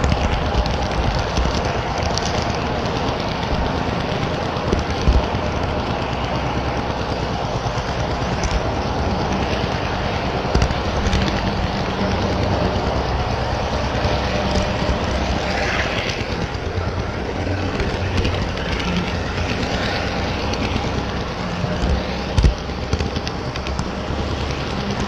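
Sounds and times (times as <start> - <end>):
model train motors humming: 0.0 - 25.0
wheels rattling on track: 0.0 - 25.0.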